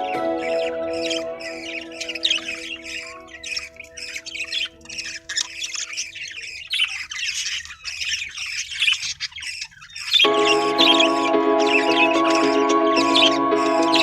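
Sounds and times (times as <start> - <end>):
lovebirds squawking and chattering: 0.0 - 14.0.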